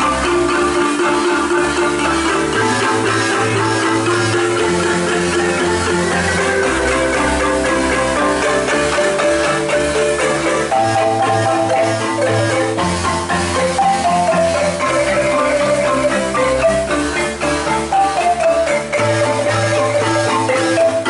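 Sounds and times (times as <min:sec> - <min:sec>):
marimba ensemble playing: 0:00.0 - 0:21.0.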